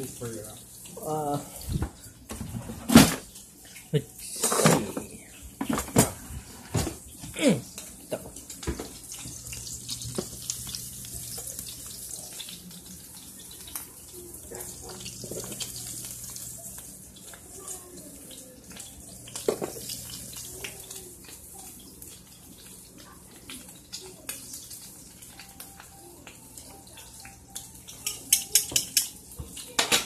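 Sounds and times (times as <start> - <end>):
food frying in pans: 0.0 - 30.0.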